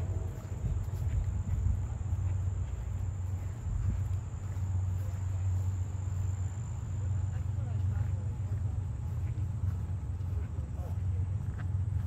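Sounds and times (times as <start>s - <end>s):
insects trilling: 0.0s - 10.2s
low rumble on microphone: 0.0s - 12.0s.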